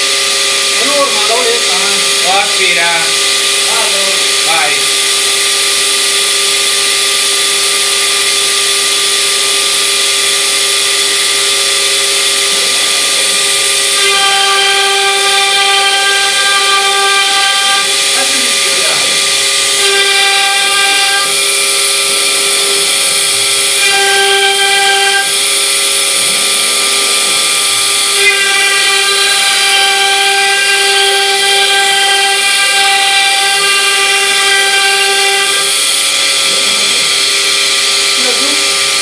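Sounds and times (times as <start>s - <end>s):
high whine: 0.0s - 39.0s
router spindle carving wood: 0.0s - 39.0s.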